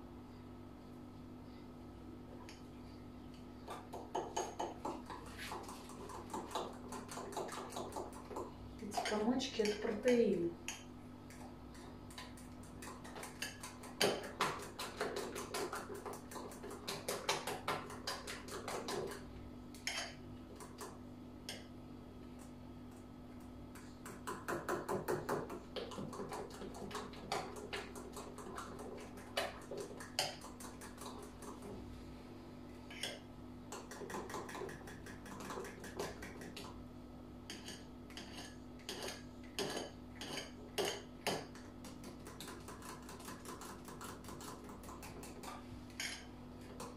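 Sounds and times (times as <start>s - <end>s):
low steady hum: 0.0s - 46.9s
fork beating batter in bowl: 3.3s - 21.7s, 22.3s - 32.0s, 32.8s - 36.8s, 37.4s - 46.9s.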